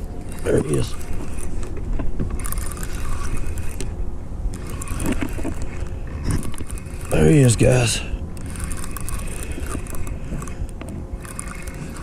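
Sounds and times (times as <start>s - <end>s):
rod and reel clicking: 0.0s - 12.0s
steady low rumble: 0.0s - 12.0s.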